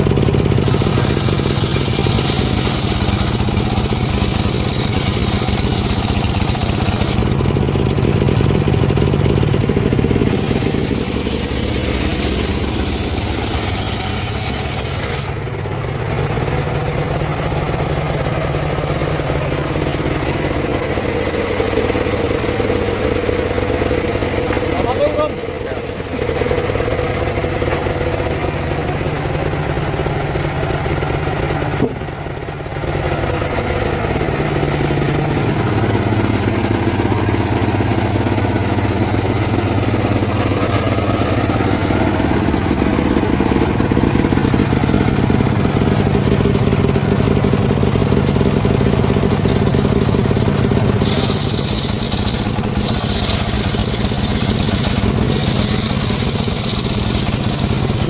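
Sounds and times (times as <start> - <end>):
sawing machine engine running: 0.0 - 58.0.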